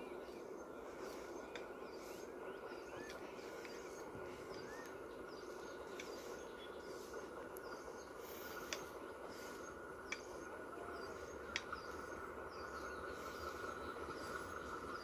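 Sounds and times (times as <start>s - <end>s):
bird chirping: 0.0s - 15.0s
low background hum: 0.0s - 15.0s.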